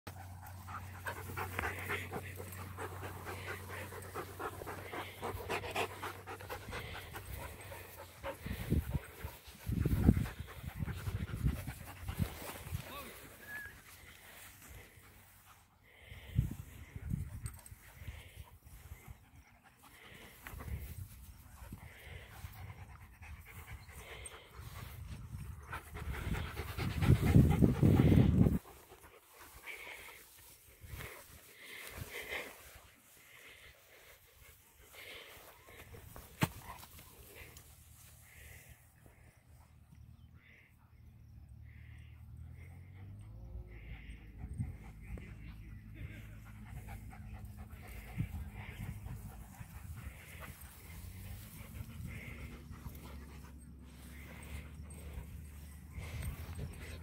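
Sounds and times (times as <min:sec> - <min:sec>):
dogs panting: 0:00.0 - 0:57.0.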